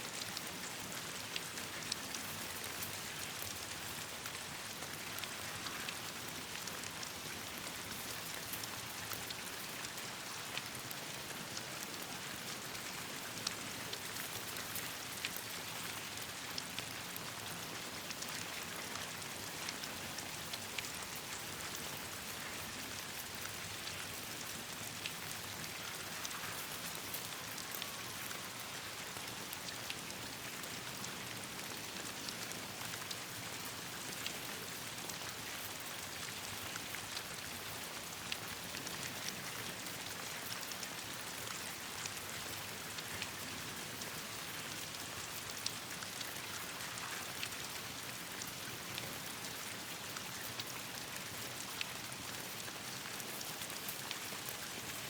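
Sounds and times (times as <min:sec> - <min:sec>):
steady rain on leaves: 0:00.0 - 0:55.0.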